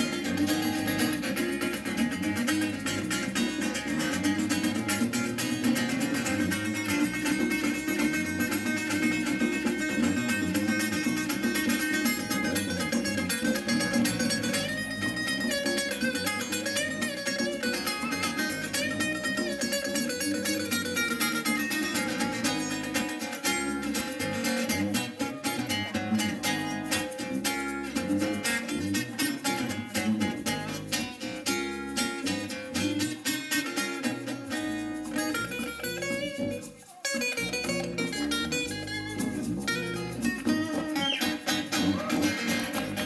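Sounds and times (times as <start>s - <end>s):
acoustic guitars playing: 0.0s - 43.0s
hand shaker beat: 0.0s - 43.0s.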